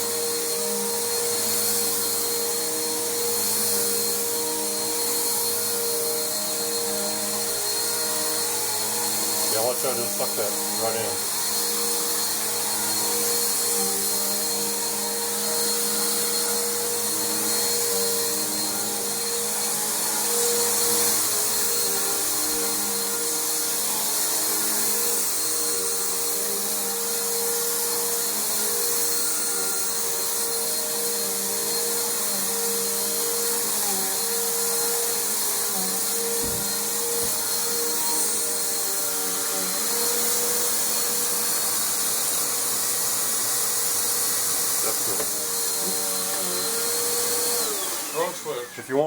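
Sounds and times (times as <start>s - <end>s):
vacuum cleaner running on carpet: 0.0s - 49.0s.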